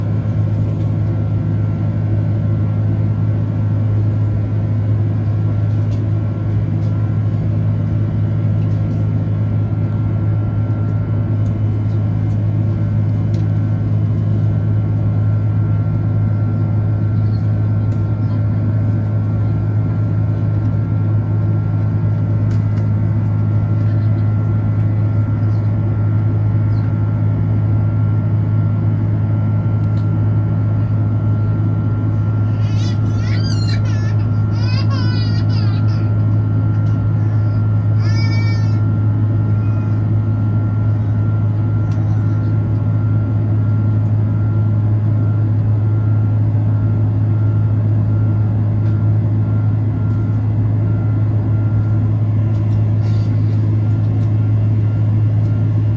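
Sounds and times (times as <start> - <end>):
jet engine drone in cabin: 0.0 - 55.9.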